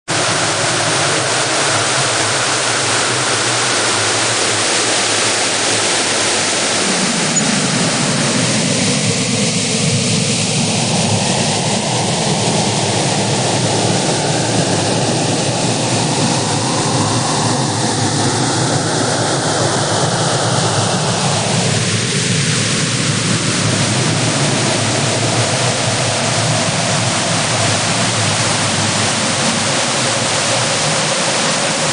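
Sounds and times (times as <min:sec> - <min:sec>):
loud rushing hiss: 0:00.1 - 0:31.9.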